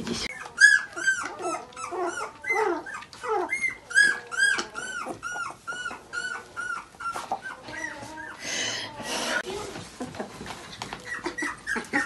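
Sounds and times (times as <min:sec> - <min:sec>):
puppy squealing and whining: 0:00.2 - 0:09.5, 0:10.8 - 0:12.0.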